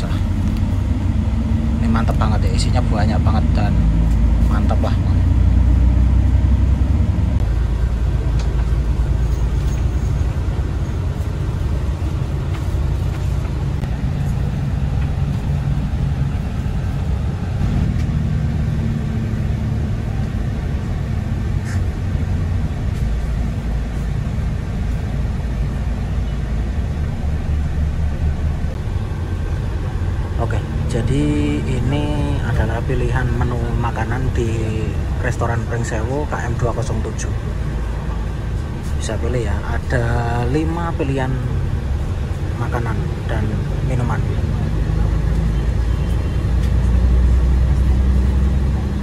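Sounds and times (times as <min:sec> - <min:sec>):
bus engine and tyres rumbling: 0:00.0 - 0:49.0.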